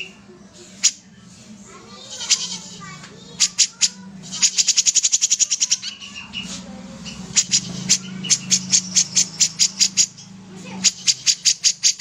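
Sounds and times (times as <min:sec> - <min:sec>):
bird singing: 0:00.0 - 0:01.3, 0:02.0 - 0:12.0.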